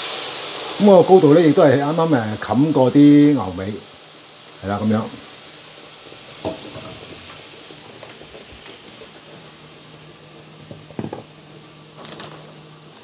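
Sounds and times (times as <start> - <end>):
liquid bubbling and hissing in a pan: 0.0 - 13.0.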